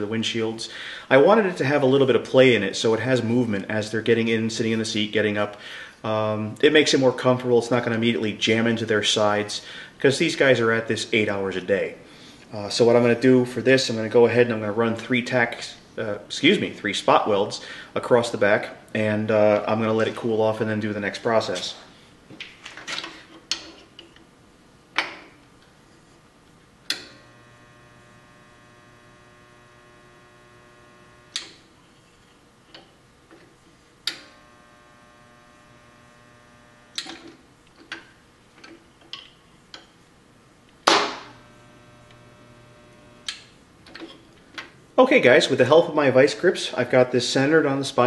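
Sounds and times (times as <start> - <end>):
spot welder transformer humming: 0.0 - 48.0.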